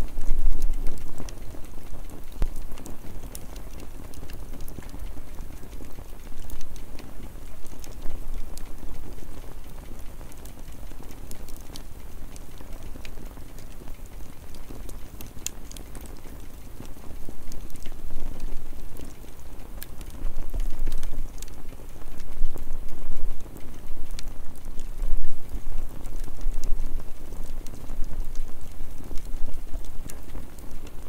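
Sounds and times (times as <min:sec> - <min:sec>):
campfire crackling: 0:00.0 - 0:31.0
fire popping: 0:00.1 - 0:31.0.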